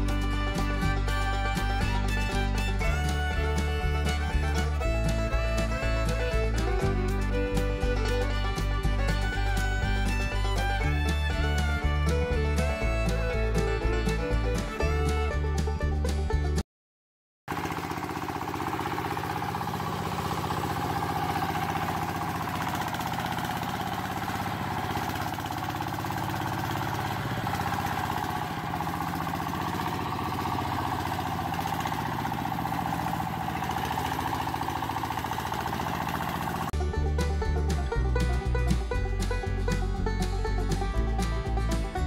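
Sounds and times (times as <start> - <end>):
toy tractor motor running: 0.0 - 15.2, 17.5 - 36.8.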